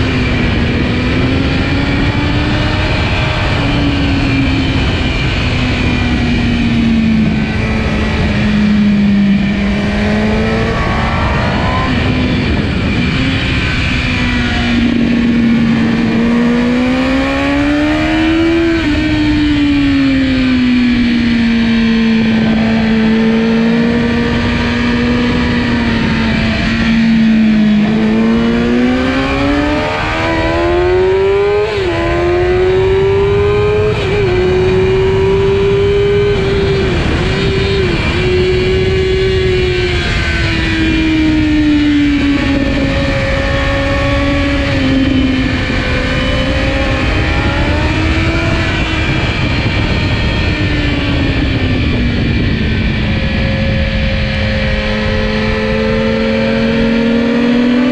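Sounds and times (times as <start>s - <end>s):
motorcycle engine revving: 0.0s - 57.9s
wind noise: 0.0s - 57.9s.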